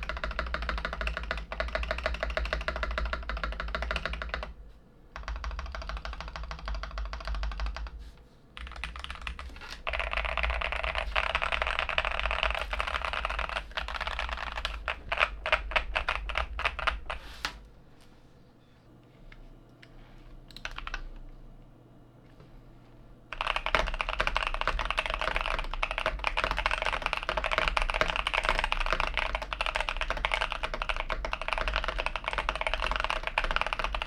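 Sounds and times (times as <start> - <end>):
mechanical keyboard typing: 0.0 - 8.0, 8.6 - 17.2, 20.5 - 21.2, 23.3 - 34.0.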